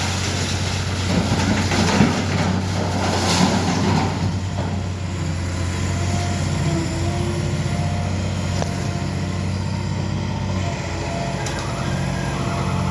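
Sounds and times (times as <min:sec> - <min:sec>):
heavy machinery engine running: 0:00.0 - 0:12.9.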